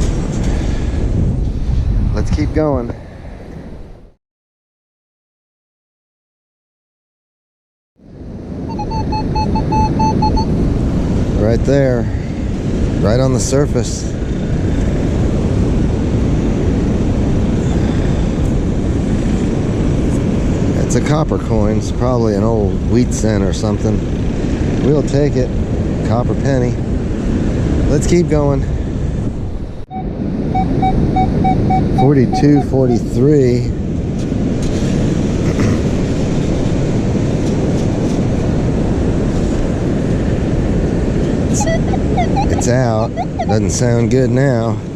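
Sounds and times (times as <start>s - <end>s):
wind buffeting microphone: 0.0s - 4.2s, 8.1s - 44.9s.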